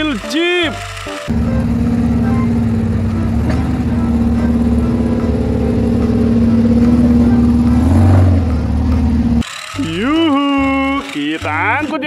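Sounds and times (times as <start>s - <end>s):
engine running hard under load: 0.0s - 10.2s.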